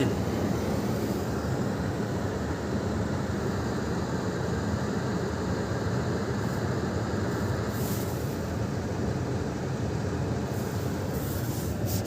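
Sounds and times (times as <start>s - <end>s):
climate control blower rushing air: 0.0s - 12.0s.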